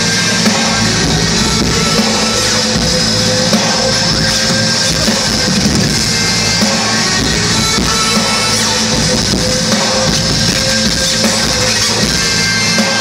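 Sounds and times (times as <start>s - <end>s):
loud live concert music: 0.0s - 13.0s.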